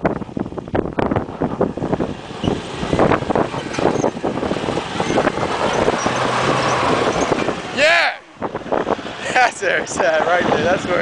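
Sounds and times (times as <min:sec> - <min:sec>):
diesel engine under load: 0:00.0 - 0:11.0
wind buffeting microphone: 0:00.0 - 0:11.0.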